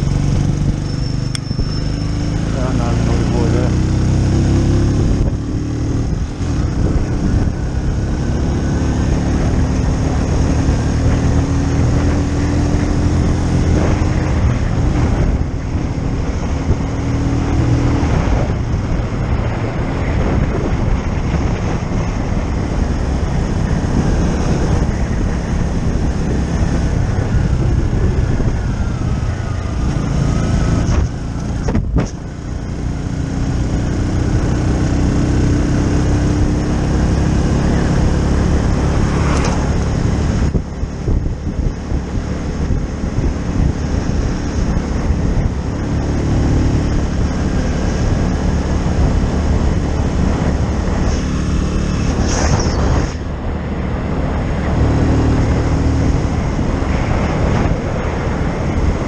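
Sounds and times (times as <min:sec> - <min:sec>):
motorcycle engine running: 0:00.0 - 0:59.0
riding wind noise: 0:00.0 - 0:59.0.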